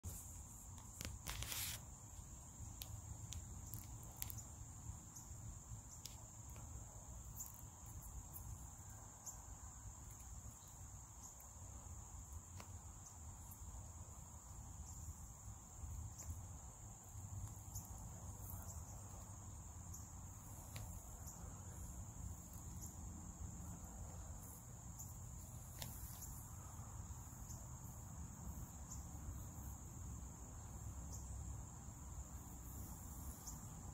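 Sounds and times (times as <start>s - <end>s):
insects chorus: 0.0s - 33.9s.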